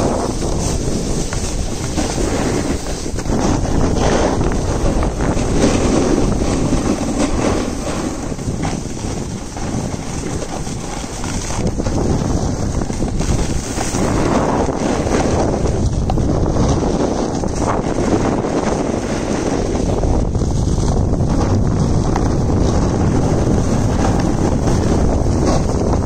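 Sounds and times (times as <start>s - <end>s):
snow scraping underfoot: 0.0s - 26.0s
wind rushing over microphone: 0.0s - 26.0s.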